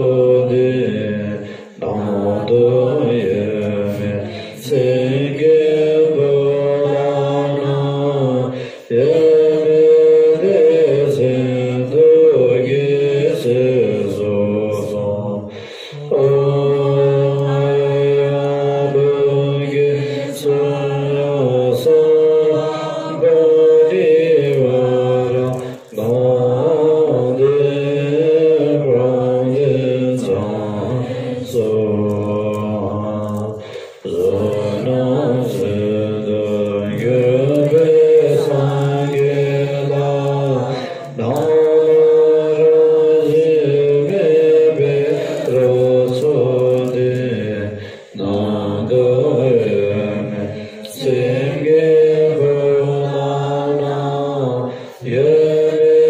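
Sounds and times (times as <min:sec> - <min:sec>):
women chanting prayers: 0:00.0 - 0:56.0.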